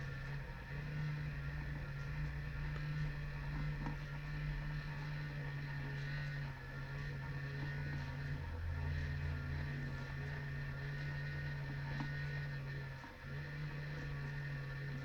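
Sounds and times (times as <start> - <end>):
model locomotive motor humming: 0.0 - 15.0.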